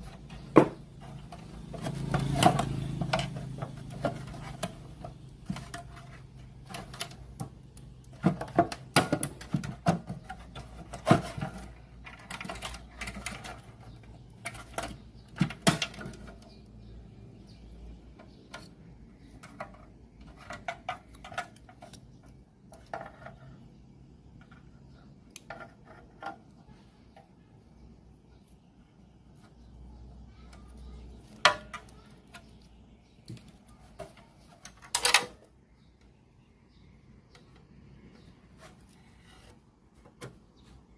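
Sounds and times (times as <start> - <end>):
small tools and parts clattering: 0.0 - 27.4, 29.3 - 36.1.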